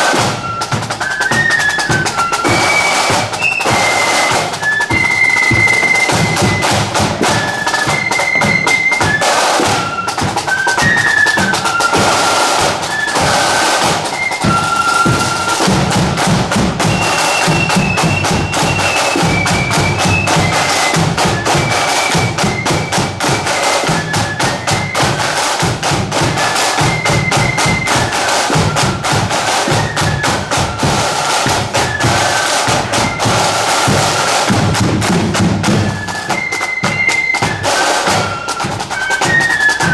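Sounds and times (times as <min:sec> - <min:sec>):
marching band melody: 0:00.0 - 0:39.9
rapid snare drumming: 0:00.0 - 0:39.9.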